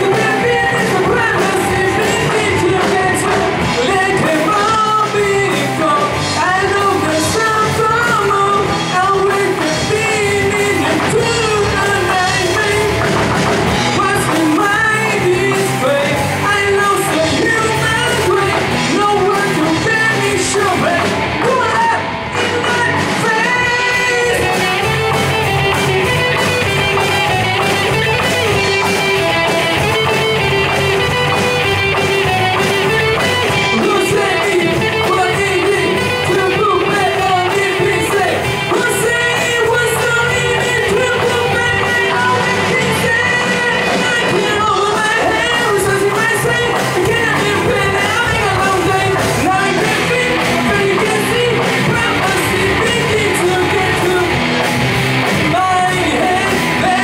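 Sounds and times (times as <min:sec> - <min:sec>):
bass guitar: 0:00.0 - 0:57.0
drum kit: 0:00.0 - 0:57.0
electric guitars: 0:00.0 - 0:57.0
keyboard: 0:00.0 - 0:57.0
person singing: 0:00.0 - 0:57.0.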